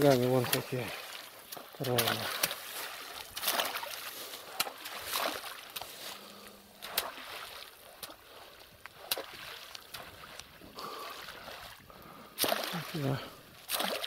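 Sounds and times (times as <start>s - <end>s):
moving water: 0.0s - 14.0s
poles slapping water surface: 0.0s - 14.0s.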